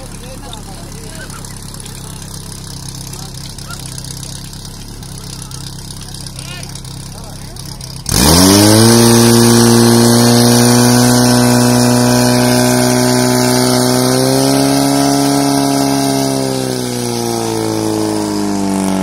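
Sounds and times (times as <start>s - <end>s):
fire pump engine running: 0.0s - 19.0s.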